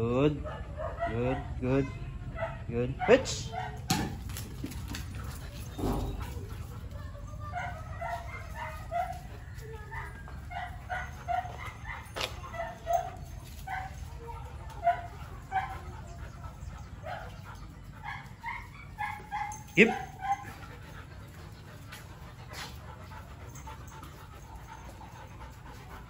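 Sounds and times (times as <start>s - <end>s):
dogs yipping and barking: 0.4s - 26.0s.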